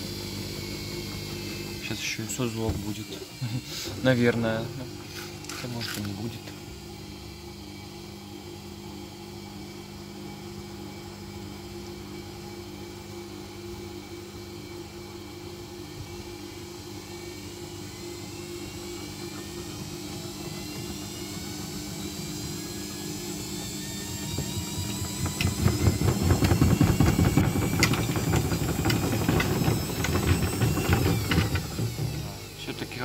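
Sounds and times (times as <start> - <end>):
washing machine spinning up: 0.0 - 33.0.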